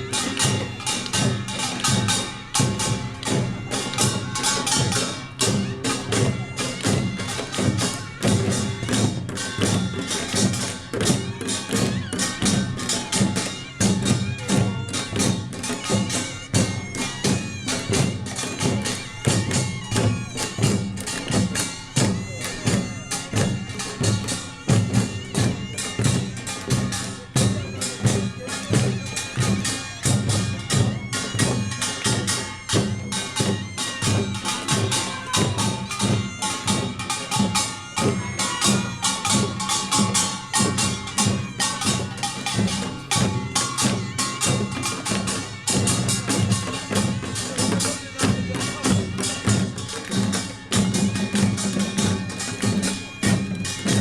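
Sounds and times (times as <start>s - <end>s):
percussion band drumming: 0.0s - 54.0s.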